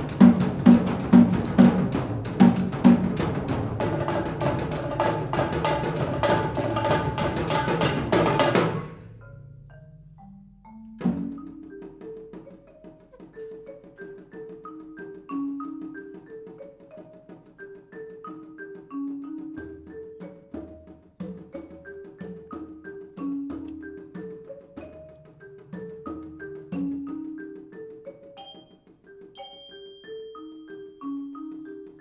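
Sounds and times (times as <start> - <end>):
mallet keyboard notes: 0.0 - 32.0
percussion ensemble playing: 0.0 - 32.0.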